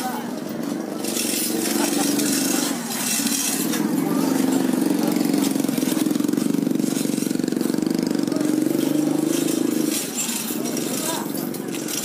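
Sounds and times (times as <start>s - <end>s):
vehicle engine idling: 1.6s - 12.0s.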